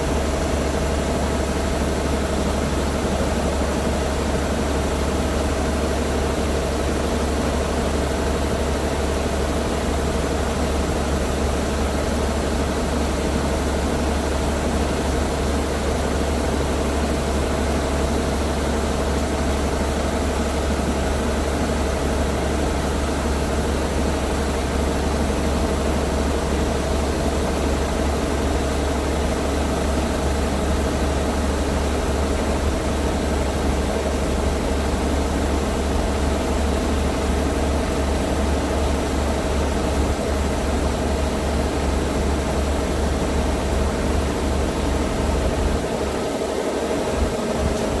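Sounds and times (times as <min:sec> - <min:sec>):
combine harvester engine hum: 0:00.0 - 0:48.0.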